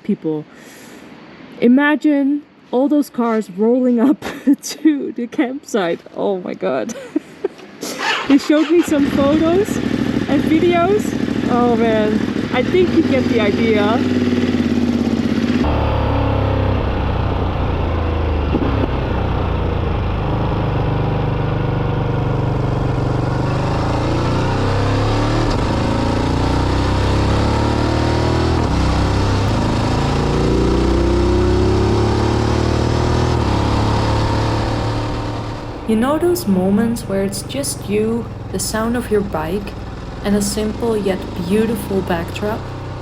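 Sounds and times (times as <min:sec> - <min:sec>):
motorcycle engine accelerating: 0:08.0 - 0:43.0.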